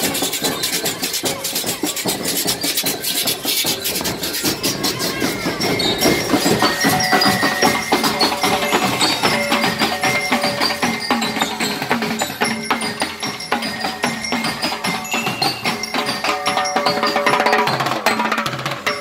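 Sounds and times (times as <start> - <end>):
bell lyres playing melody: 0.0 - 19.0
snare and bass drums: 0.0 - 19.0.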